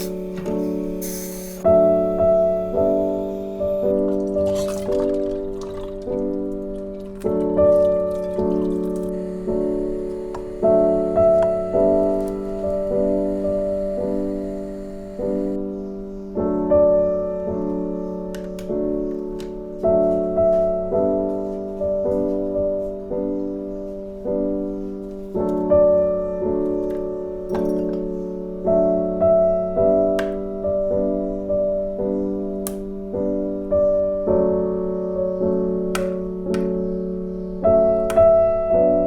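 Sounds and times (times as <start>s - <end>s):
slow piano chords: 0.0s - 39.0s.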